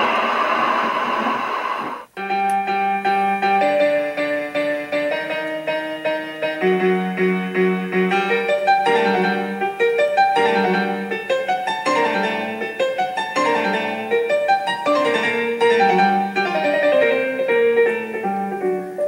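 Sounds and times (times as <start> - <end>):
piano music: 2.0 - 19.0.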